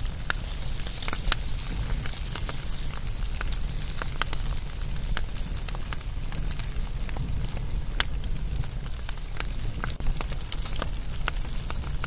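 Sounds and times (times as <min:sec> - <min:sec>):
fire popping and snapping: 0:00.0 - 0:12.0
wood fire crackling: 0:00.0 - 0:12.0.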